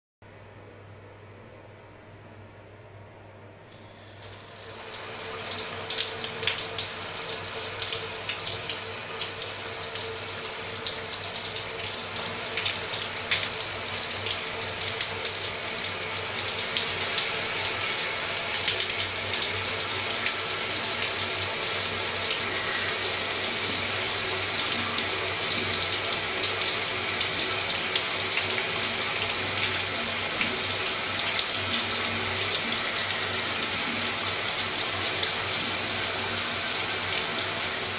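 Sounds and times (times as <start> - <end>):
shower spraying and splashing: 3.8 - 37.9.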